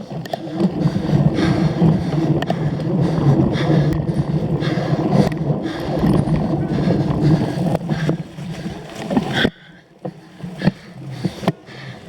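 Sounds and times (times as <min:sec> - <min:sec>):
bike tyres rumbling on rough ground: 0:00.0 - 0:12.0.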